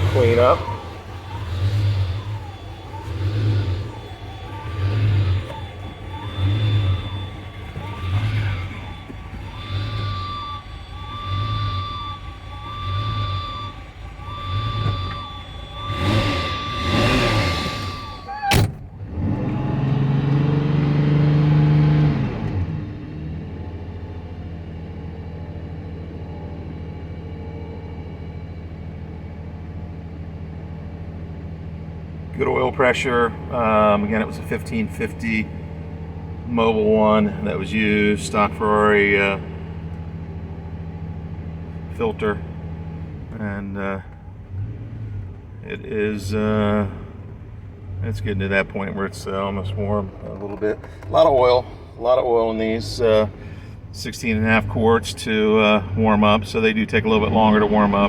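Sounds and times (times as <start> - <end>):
car engine idling unevenly: 0.0 - 58.0.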